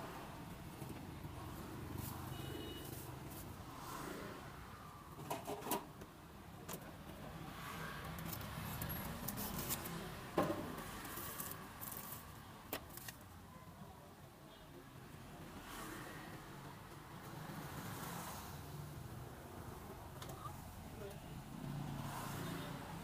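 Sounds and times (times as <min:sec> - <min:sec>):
hum of street traffic: 0:00.0 - 0:23.0.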